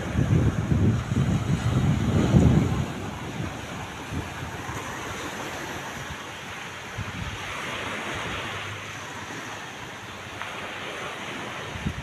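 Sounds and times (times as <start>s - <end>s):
surf washing on beach: 0.0s - 12.0s
wind gusting against microphone: 0.0s - 12.0s.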